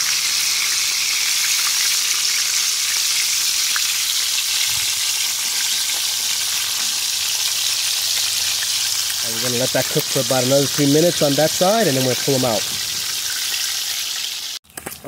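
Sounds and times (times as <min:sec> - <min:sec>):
fish frying in hot oil: 0:00.0 - 0:14.6.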